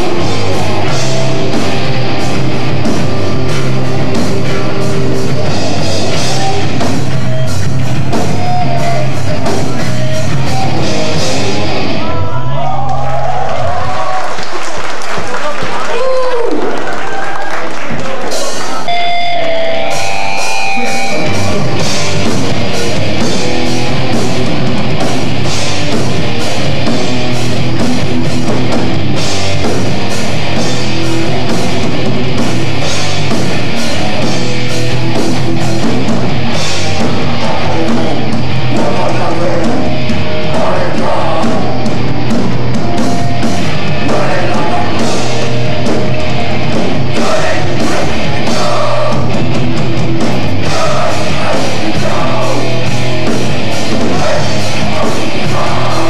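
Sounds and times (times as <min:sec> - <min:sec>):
electric guitars: 0:00.0 - 0:14.6, 0:15.9 - 0:56.0
bass guitar: 0:00.0 - 0:15.2, 0:15.9 - 0:56.0
drum kit: 0:00.0 - 0:15.3, 0:16.0 - 0:56.0.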